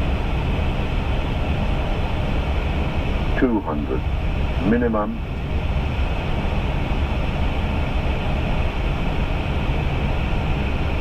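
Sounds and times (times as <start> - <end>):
cockpit air rush and rumble: 0.0 - 11.0.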